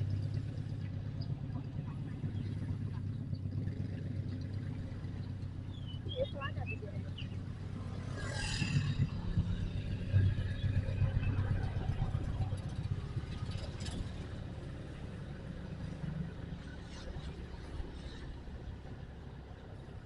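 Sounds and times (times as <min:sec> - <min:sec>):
motorcycle engine at low speed: 0:00.0 - 0:20.0.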